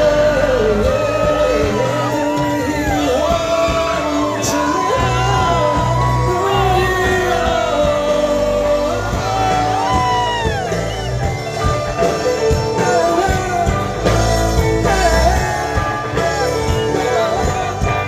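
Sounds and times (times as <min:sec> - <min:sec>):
live rock band playing: 0:00.0 - 0:18.0
man singing: 0:00.0 - 0:18.0.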